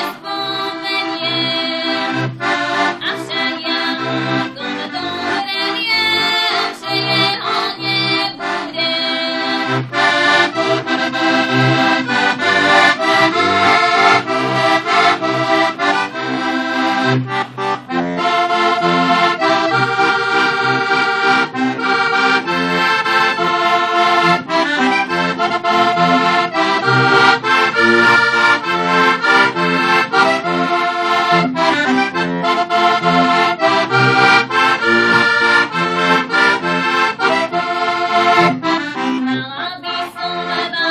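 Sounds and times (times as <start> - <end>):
button accordion folk tune: 0.0 - 40.9.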